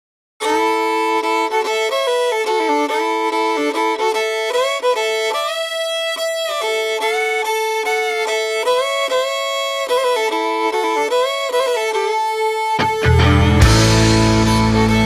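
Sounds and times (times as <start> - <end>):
fiddle playing country tune: 0.4 - 15.0.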